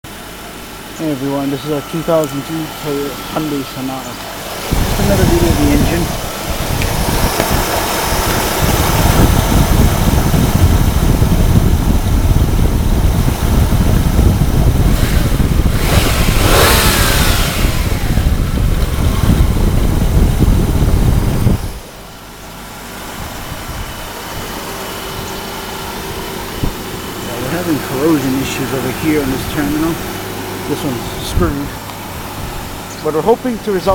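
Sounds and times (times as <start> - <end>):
car engine revving and idling: 0.1 - 33.9.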